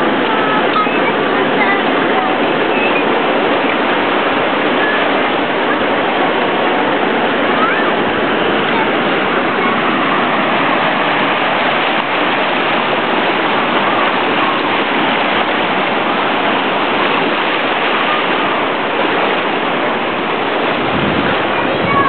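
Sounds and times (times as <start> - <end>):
waves breaking on beach: 0.0 - 22.0.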